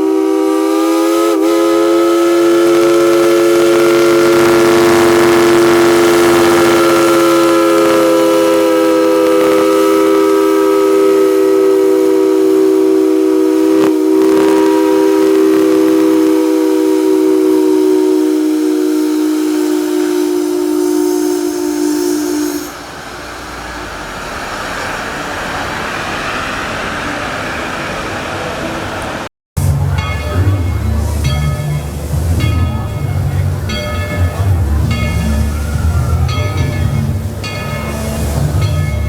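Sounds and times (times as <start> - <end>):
steam locomotive chime whistle: 0.0 - 22.9, 29.6 - 39.0
steady steam hiss: 0.0 - 39.0.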